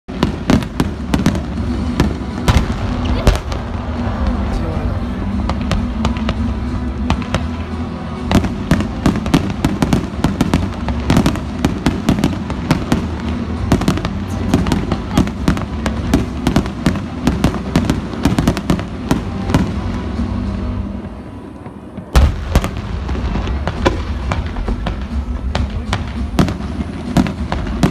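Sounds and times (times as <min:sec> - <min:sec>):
background music: 0:00.1 - 0:27.9
fireworks crackling barrage: 0:00.1 - 0:27.9.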